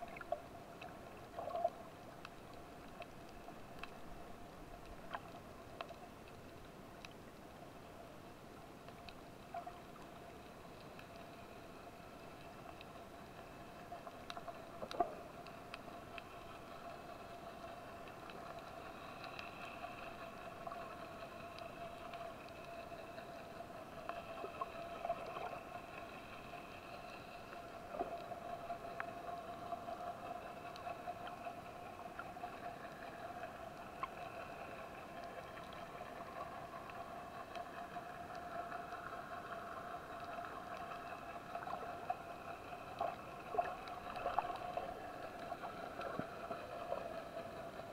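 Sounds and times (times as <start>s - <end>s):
distant boat engine drone underwater: 0.0s - 47.9s
faint clicks: 0.0s - 47.9s.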